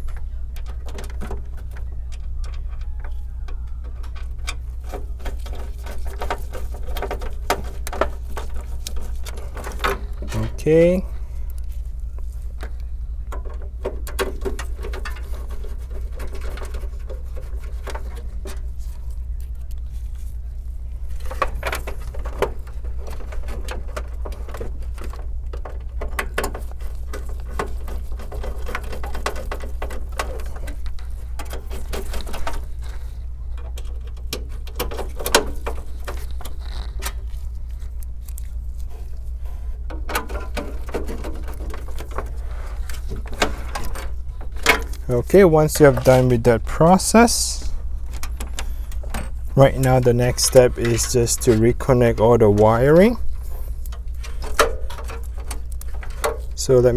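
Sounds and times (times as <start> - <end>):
steady low hum: 0.0 - 56.9
clicks and scrapes in metal pc case: 4.0 - 10.9, 13.3 - 19.1, 21.1 - 56.9.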